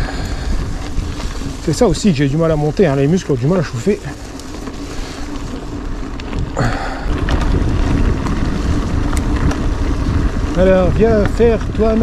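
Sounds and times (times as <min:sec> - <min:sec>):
bike tyres rolling on dirt: 0:00.0 - 0:12.0
wind buffeting microphone: 0:00.0 - 0:12.0.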